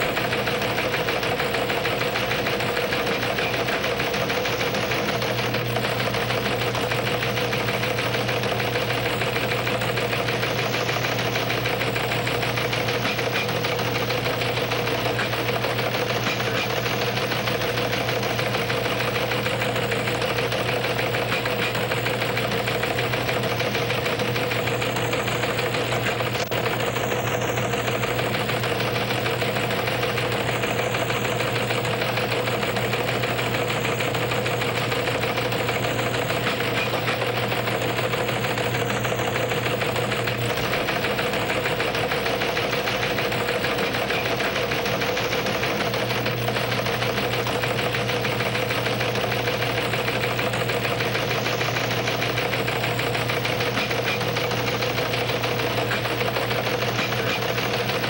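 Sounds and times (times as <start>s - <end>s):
machine buzzing hum with hiss: 0.0s - 58.0s.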